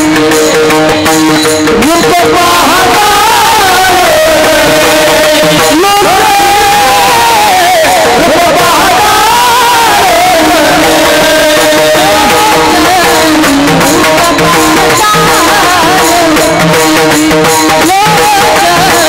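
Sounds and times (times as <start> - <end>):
hand-drum beats: 0.0 - 19.0
person singing: 1.6 - 19.0.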